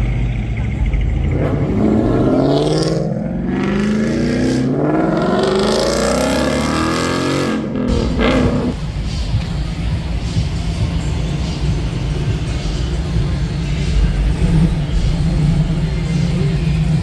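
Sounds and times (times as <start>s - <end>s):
car engines revving and accelerating: 0.0s - 17.0s.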